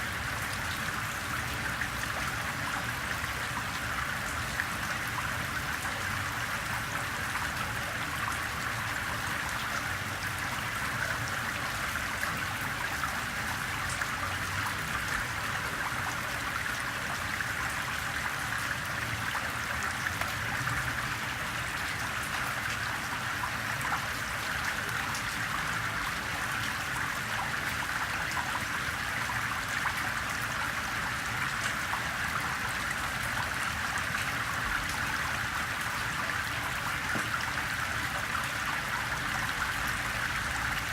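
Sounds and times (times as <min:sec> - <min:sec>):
gentle rain: 0:00.0 - 0:40.9
rainwater trickling on pebbles: 0:00.1 - 0:40.9.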